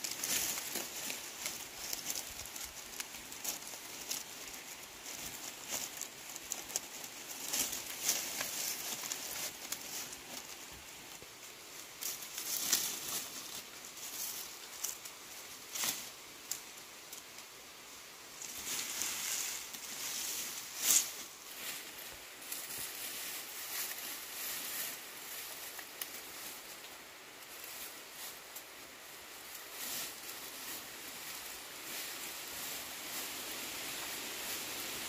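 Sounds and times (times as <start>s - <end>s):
dry sticks and leaves rustling: 0.0s - 35.0s.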